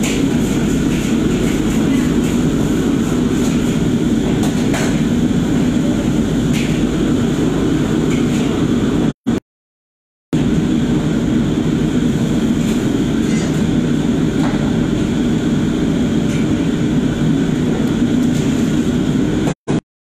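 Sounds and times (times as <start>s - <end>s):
wok burners and exhaust hood roar: 0.0s - 9.4s, 10.4s - 19.8s.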